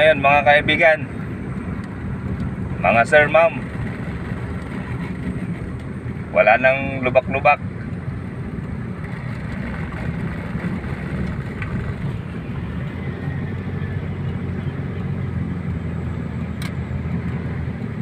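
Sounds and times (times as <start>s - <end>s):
car driving on concrete road: 0.0s - 18.0s.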